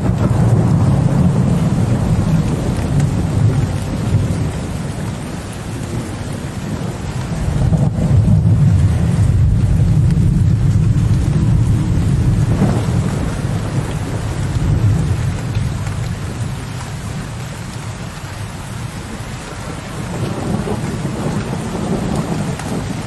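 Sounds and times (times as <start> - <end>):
distant thunder rumbling: 0.0 - 18.2, 18.9 - 23.0
steady rain: 0.0 - 23.0.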